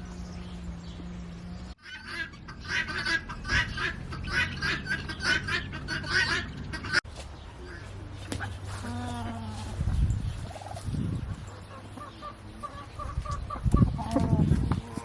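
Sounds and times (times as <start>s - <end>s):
poultry calling: 1.8s - 15.0s.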